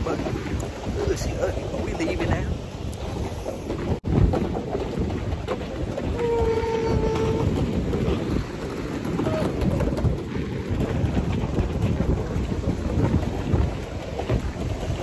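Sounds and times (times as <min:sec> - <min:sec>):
surf breaking: 0:00.0 - 0:15.0
wind buffeting microphone: 0:00.0 - 0:15.0.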